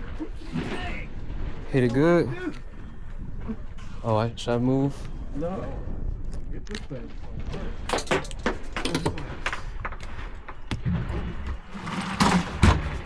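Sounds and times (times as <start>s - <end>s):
low steady rumble: 0.0s - 11.8s.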